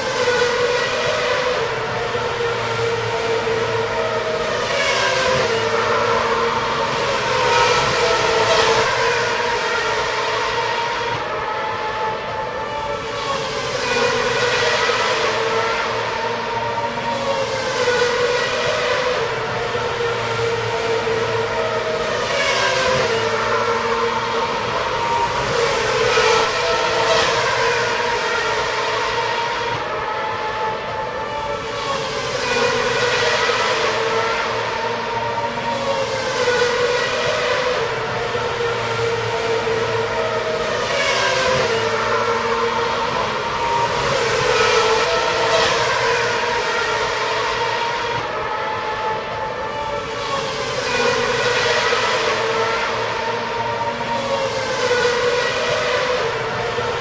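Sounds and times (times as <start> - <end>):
racing cars passing by: 0.0 - 57.0
steady engine whine: 0.0 - 57.0.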